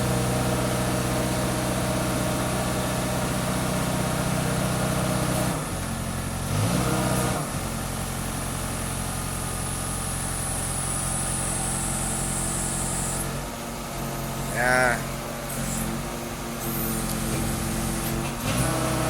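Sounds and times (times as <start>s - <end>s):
diesel truck engine idling: 0.0s - 6.5s, 7.4s - 19.0s.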